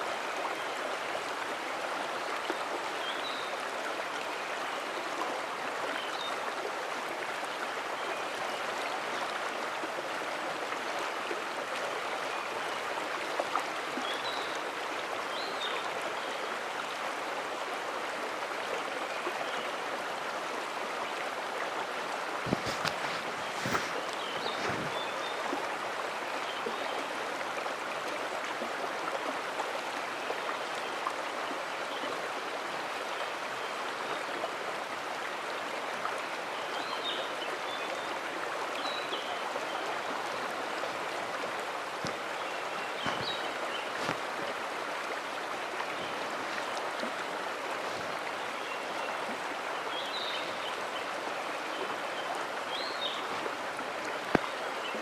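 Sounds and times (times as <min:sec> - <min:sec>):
mountain stream flowing: 0:00.0 - 0:55.0.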